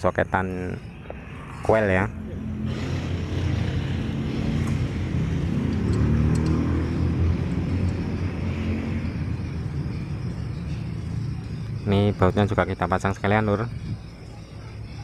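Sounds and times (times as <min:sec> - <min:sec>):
car engine idling: 0:00.6 - 0:15.0.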